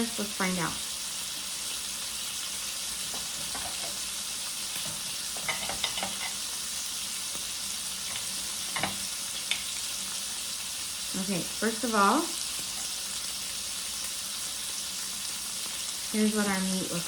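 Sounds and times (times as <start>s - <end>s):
steaks sizzling in a frying pan: 0.0s - 17.0s.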